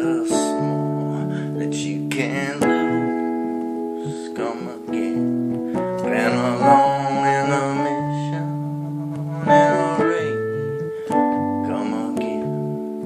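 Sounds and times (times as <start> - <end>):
electric piano chords: 0.0 - 13.0
man singing: 0.0 - 13.0.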